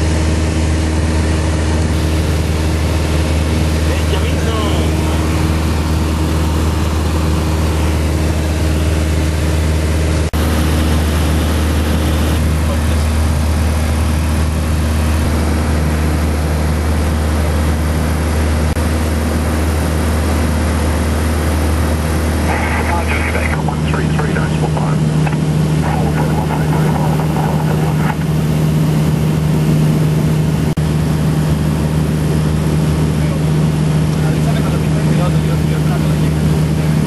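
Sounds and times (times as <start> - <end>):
light aircraft engine droning: 0.0 - 37.0.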